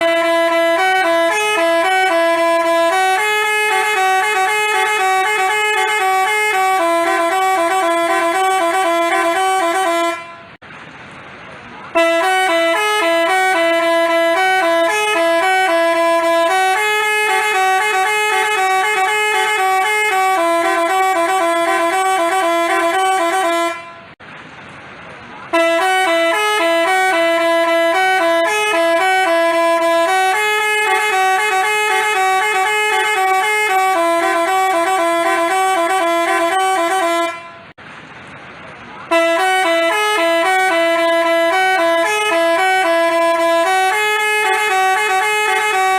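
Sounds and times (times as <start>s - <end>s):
multi-tone bus horn playing a tune: 0.0s - 10.6s, 11.8s - 24.2s, 25.4s - 37.8s, 39.0s - 45.9s.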